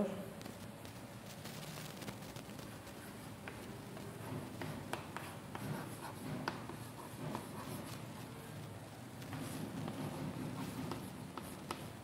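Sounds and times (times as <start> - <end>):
chalk writing on a chalkboard: 0.9 - 12.0.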